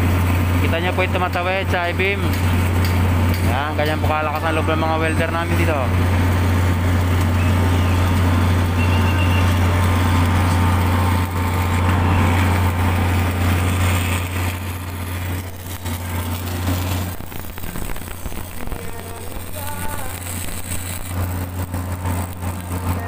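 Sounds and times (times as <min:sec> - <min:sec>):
construction machinery engine drone: 0:00.0 - 0:23.0
construction site din: 0:00.0 - 0:23.0.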